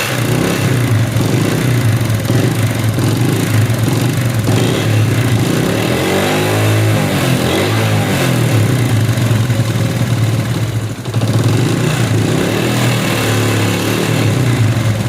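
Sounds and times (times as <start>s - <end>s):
motorcycle engine with mechanical noise: 0.0s - 15.0s.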